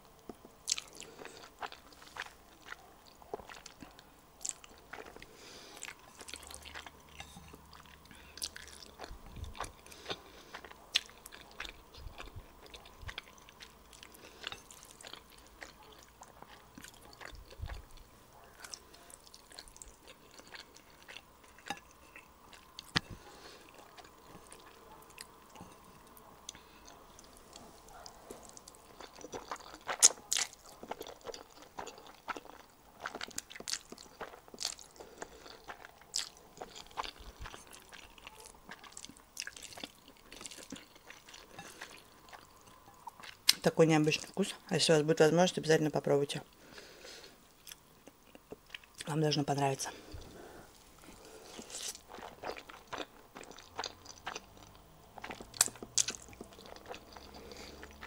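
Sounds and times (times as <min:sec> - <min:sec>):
chewing noodles: 0:00.2 - 0:44.4, 0:46.5 - 0:49.1, 0:49.9 - 0:58.0.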